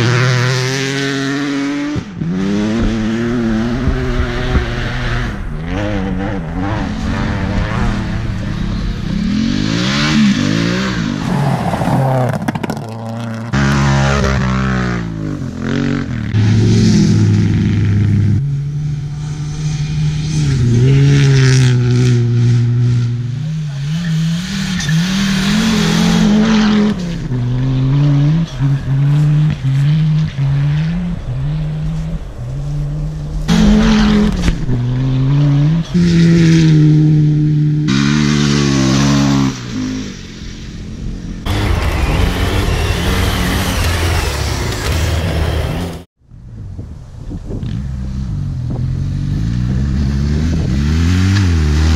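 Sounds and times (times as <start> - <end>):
rally car engines revving: 0.0 - 46.1, 47.5 - 51.9.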